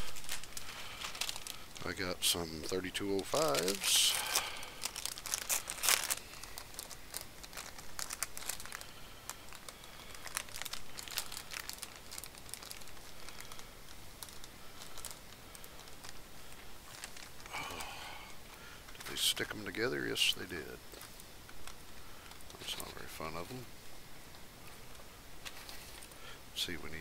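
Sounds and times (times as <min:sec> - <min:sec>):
plastic packaging crinkling: 0:00.0 - 0:23.7, 0:24.3 - 0:26.3.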